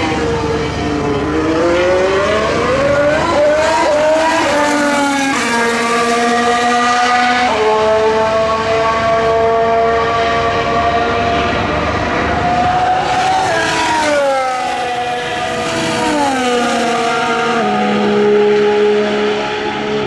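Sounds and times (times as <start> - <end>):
racing car engine at high revs: 0.0 - 20.0.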